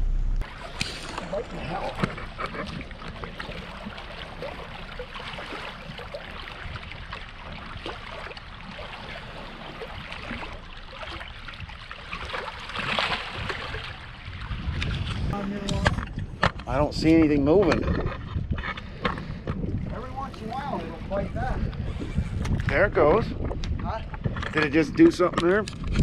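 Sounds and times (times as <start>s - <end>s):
water lapping against rocks: 0.4s - 26.0s.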